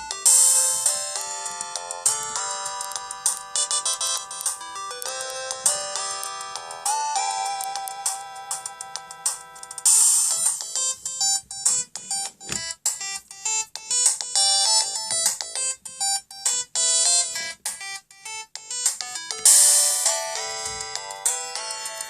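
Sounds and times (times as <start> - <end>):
mobile phone ringtone melody: 0.0 - 22.0.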